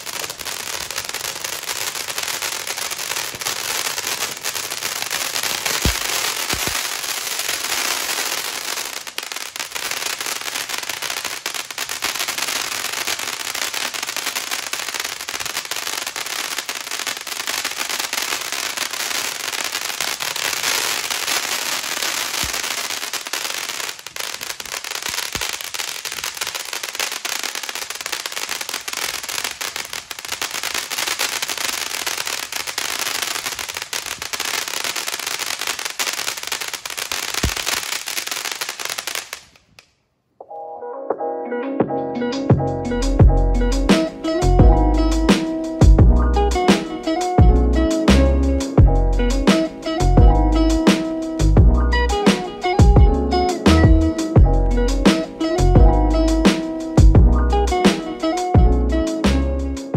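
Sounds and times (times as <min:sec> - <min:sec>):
firework fountain crackling: 0:00.0 - 0:40.1, 0:43.8 - 0:59.9.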